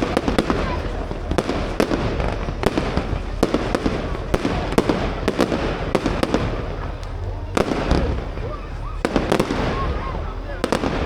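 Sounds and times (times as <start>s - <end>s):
fireworks bangs: 0.0s - 11.0s
fireworks crackling hiss: 0.0s - 11.0s.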